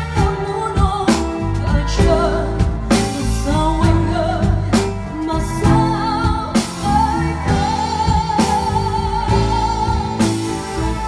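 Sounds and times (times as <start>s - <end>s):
live band playing: 0.0s - 11.0s
woman singing a slow ballad: 0.0s - 11.0s.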